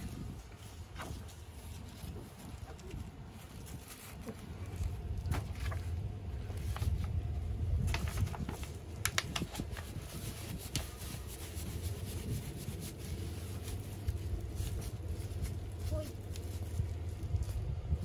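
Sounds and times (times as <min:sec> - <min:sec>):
paper wrapper crinkling: 0:00.0 - 0:18.0
steady low rumble: 0:00.0 - 0:18.0.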